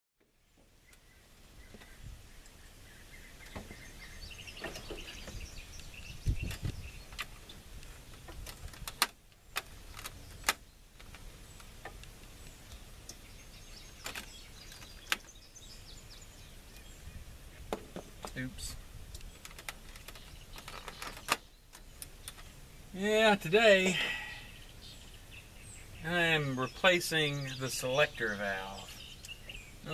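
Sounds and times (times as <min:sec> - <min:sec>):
birds chirping: 0:00.2 - 0:29.9.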